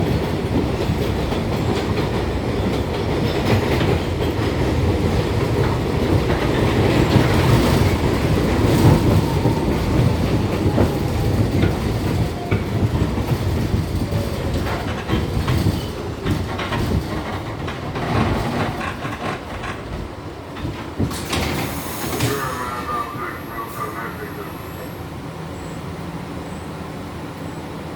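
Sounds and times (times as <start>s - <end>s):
wheels clacking over rail joints: 0.0s - 23.2s
subway train rumble: 0.0s - 27.9s.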